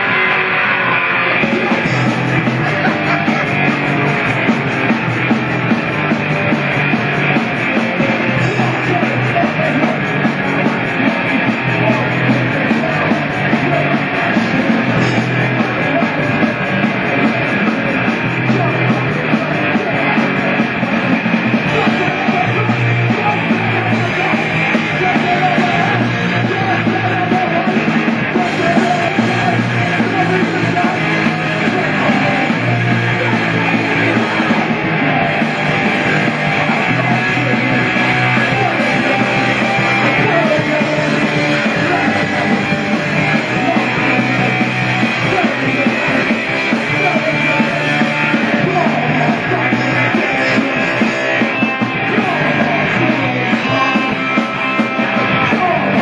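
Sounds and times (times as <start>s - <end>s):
punk rock band playing live: 0.0s - 56.0s.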